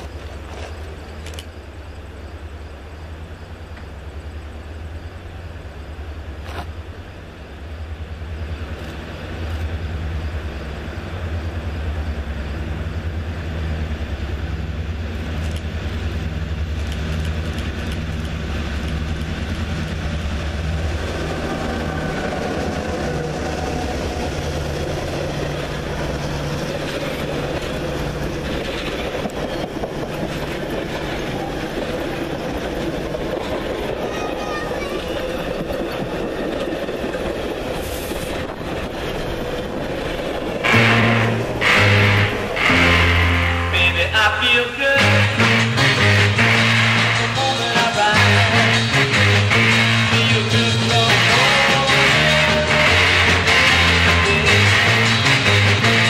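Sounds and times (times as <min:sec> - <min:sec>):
diesel locomotive engine rumble: 0:00.0 - 0:56.0
wheel-on-rail noise: 0:00.0 - 0:56.0.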